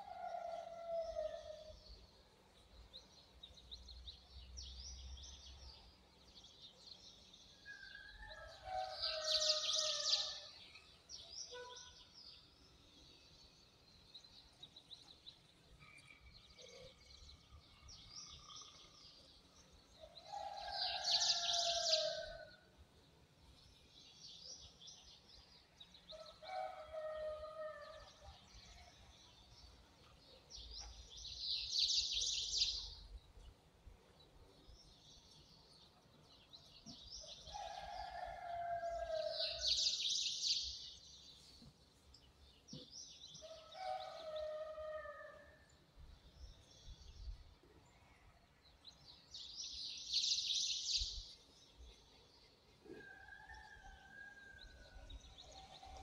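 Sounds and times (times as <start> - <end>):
birds chirping and twittering: 0.0 - 22.6, 23.5 - 56.0.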